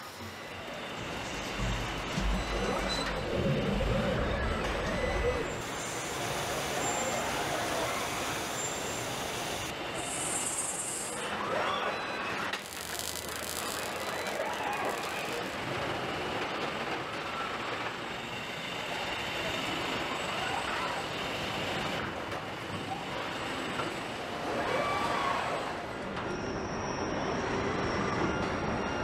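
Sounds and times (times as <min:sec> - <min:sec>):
factory machinery din: 0:00.0 - 0:24.6
rising and falling machine whines: 0:00.0 - 0:29.0.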